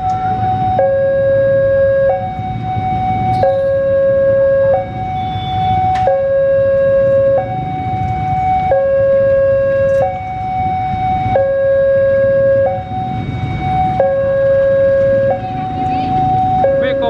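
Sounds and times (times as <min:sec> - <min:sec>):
low engine rumble: 0:00.0 - 0:17.0
two-tone level crossing alarm: 0:00.0 - 0:17.0.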